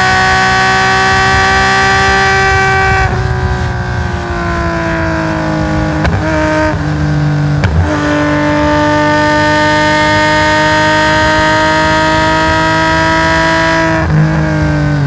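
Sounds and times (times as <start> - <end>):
racing engine at high revs: 0.0 - 15.0.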